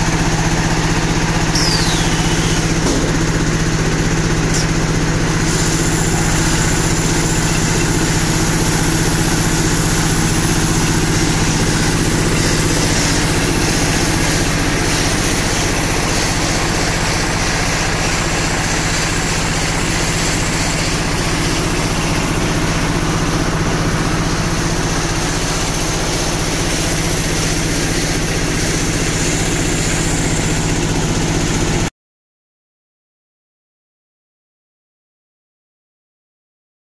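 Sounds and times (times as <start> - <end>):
baling machine droning: 0.0 - 31.8.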